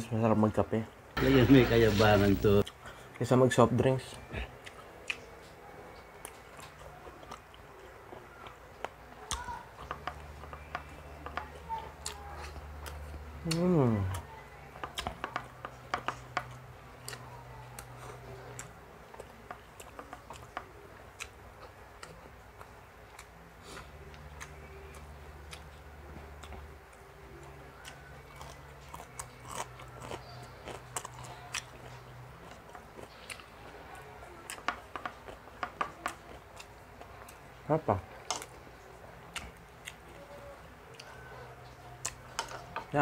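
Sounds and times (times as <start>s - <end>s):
person chewing food: 4.2s - 43.0s.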